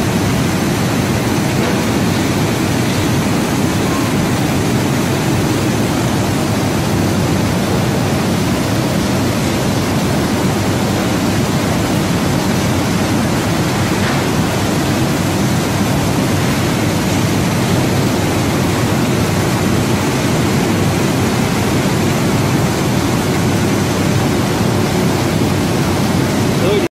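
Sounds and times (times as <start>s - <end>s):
steady machine noise: 0.0s - 26.9s.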